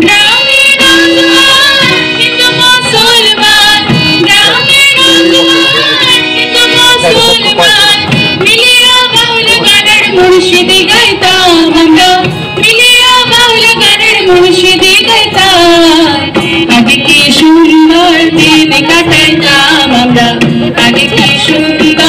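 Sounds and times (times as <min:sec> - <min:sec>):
women singing together: 0:00.0 - 0:22.0.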